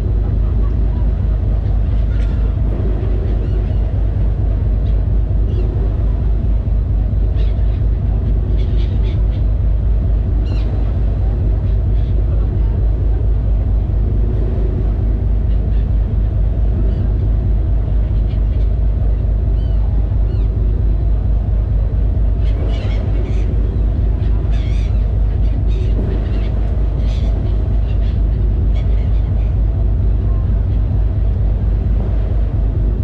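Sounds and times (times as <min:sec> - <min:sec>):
ferry engine drone: 0:00.0 - 0:33.0.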